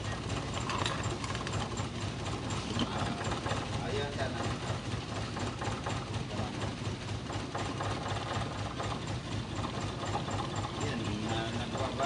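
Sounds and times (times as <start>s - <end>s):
car engine idling with ticking: 0.0s - 12.0s.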